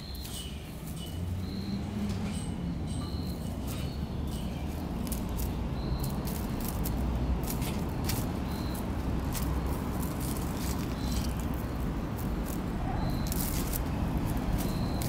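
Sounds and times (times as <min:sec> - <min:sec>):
light ticks and rustles: 0:02.0 - 0:15.0.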